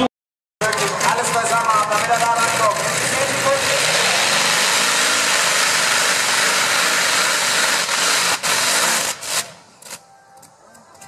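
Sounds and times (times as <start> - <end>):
tractor engine roaring: 0.0 - 11.0.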